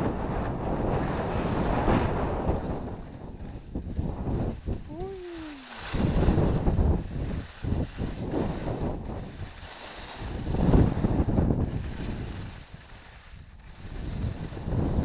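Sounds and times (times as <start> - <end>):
skis scraping over snow: 0.0 - 15.0
wind rushing over microphone: 0.0 - 15.0.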